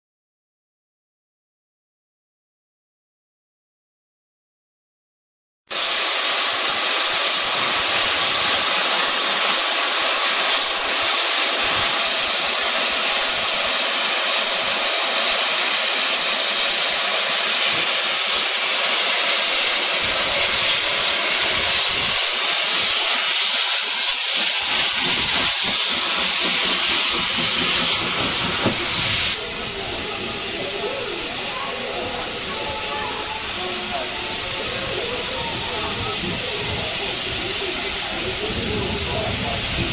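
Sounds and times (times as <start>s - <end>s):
locomotive steam hissing: 5.7s - 39.9s.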